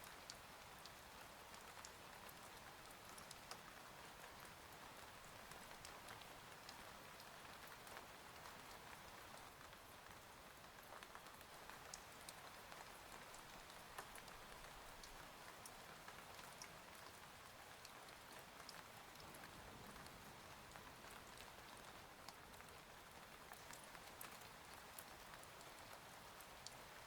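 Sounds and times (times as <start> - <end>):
faint steady rain: 0.0 - 27.0.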